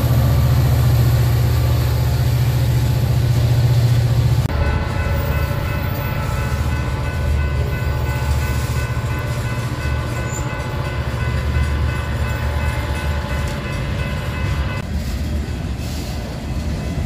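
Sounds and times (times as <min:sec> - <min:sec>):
freight train cars rumbling past: 0:00.0 - 0:17.0.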